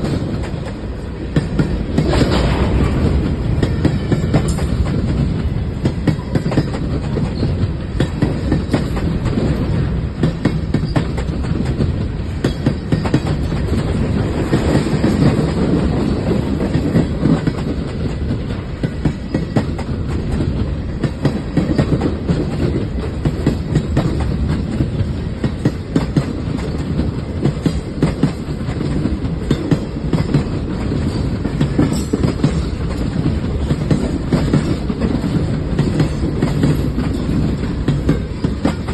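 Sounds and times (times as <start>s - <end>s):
freight train rumble: 0.0s - 38.9s
wheels clickety-clack on rails: 0.0s - 38.9s.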